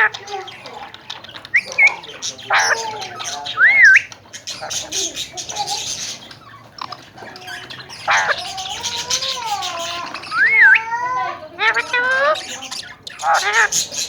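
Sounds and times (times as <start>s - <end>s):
parakeets squawking: 0.0s - 14.0s
whistled bird calls: 1.3s - 14.0s.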